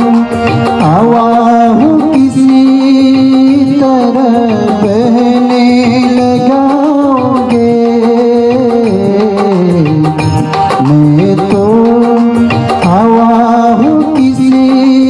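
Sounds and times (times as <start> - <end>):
harmonium chords: 0.0 - 15.0
light percussion rhythm: 0.0 - 15.0
man singing: 0.0 - 15.0.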